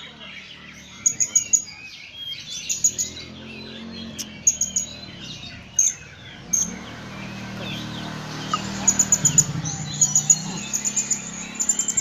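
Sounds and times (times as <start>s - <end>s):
soft twittering: 0.0s - 12.0s.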